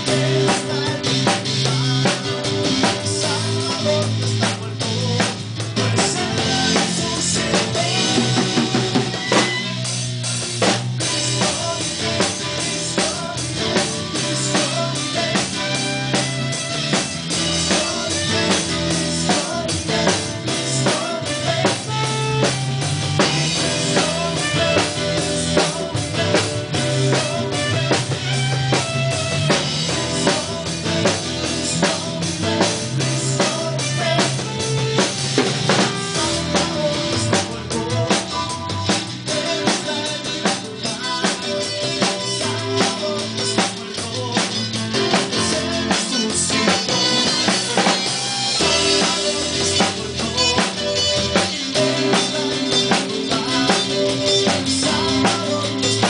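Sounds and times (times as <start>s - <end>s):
bass guitar: 0.0s - 56.0s
drum kit steady beat: 0.0s - 56.0s.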